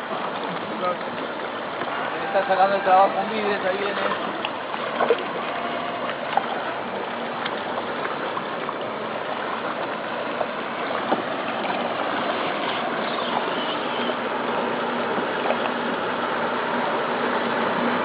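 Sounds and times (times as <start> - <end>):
small splashes: 0.0 - 18.0
water rushing around kayak: 0.0 - 18.0.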